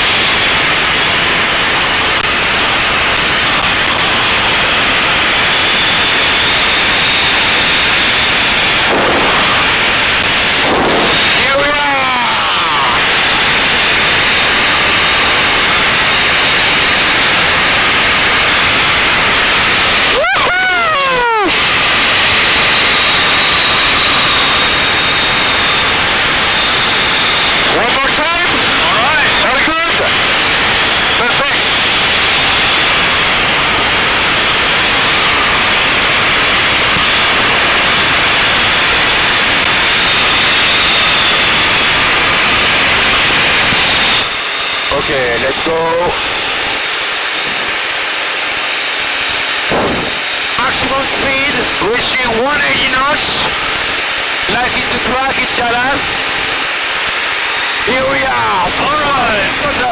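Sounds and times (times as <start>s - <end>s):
propeller plane engine and airflow: 0.0s - 59.9s.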